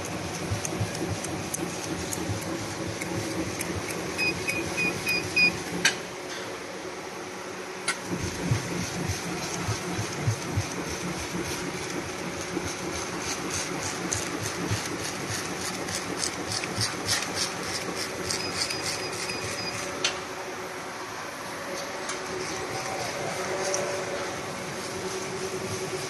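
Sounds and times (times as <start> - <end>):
machine humming with rapid clicks: 0.0 - 26.0.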